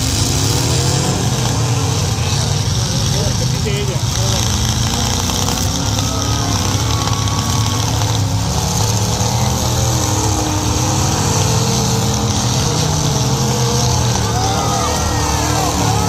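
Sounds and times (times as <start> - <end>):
car engines droning: 0.0 - 16.0.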